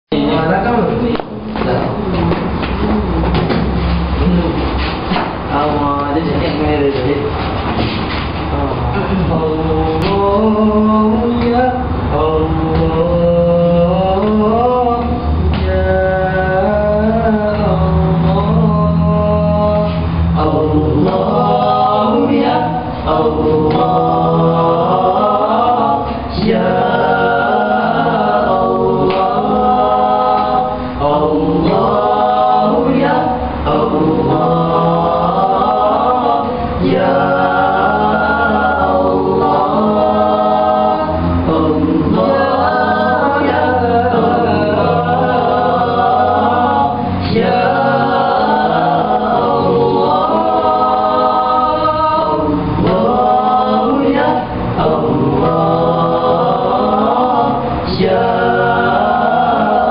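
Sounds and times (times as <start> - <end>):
male voices singing in harmony: 0.1 - 59.9.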